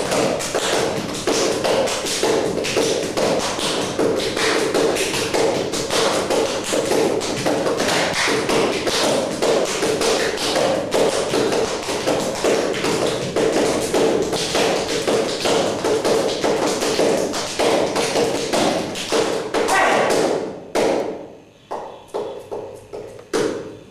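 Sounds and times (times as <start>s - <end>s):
percussive tapping and thumping: 0.0s - 23.8s.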